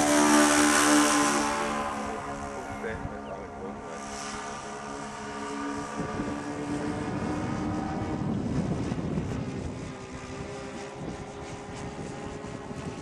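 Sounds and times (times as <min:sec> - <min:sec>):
model plane propeller engines droning: 0:00.0 - 0:13.0
steady engine tone: 0:00.0 - 0:13.0.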